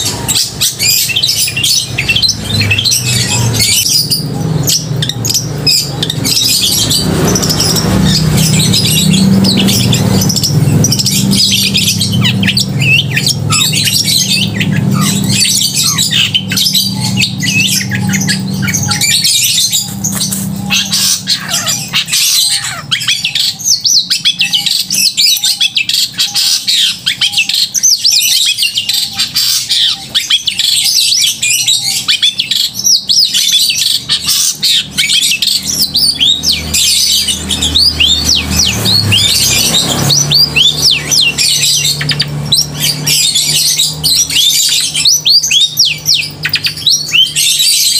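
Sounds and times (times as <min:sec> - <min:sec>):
shrike singing: 0:00.0 - 0:47.9.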